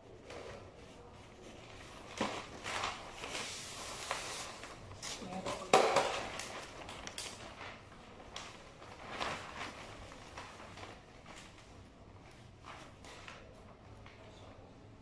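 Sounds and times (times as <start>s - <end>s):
wrapping paper rustling: 0.1s - 14.6s.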